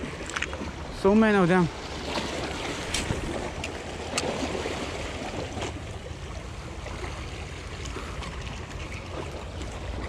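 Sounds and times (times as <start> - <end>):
waves splashing over rocks: 0.0 - 10.0.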